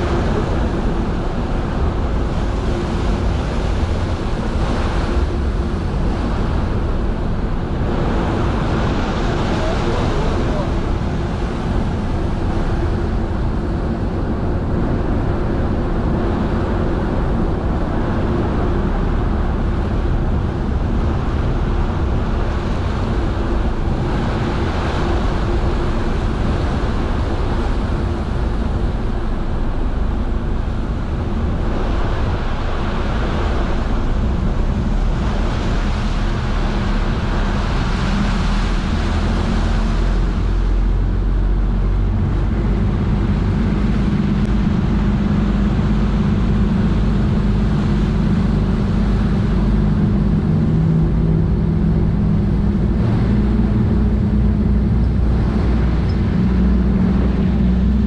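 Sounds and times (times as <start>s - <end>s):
churning water around hull: 0.0s - 58.0s
rushing boat wake: 0.0s - 58.0s
ship engine rumble: 0.0s - 58.0s.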